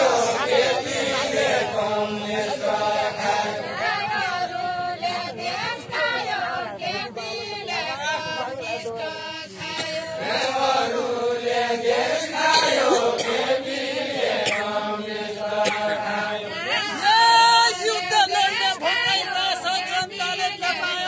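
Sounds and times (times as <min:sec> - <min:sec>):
group singing unaccompanied folk song: 0:00.0 - 0:21.0.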